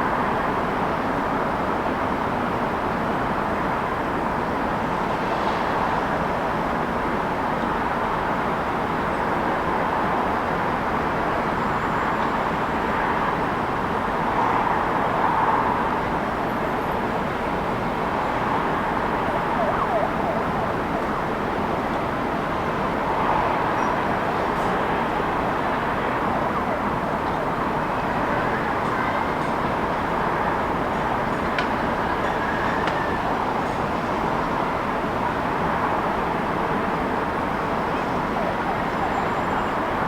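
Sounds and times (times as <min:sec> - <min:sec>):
city road traffic: 0:00.0 - 0:40.0.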